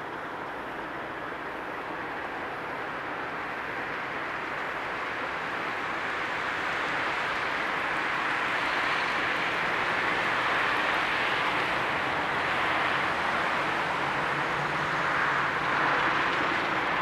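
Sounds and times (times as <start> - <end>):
train rushing rumble: 0.0 - 17.0.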